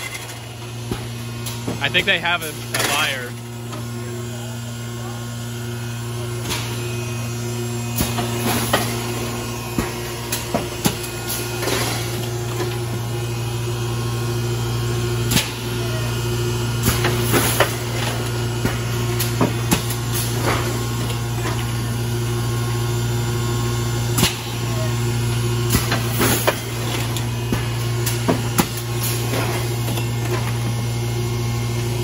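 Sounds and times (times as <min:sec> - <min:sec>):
factory machinery humming: 0:00.0 - 0:32.0.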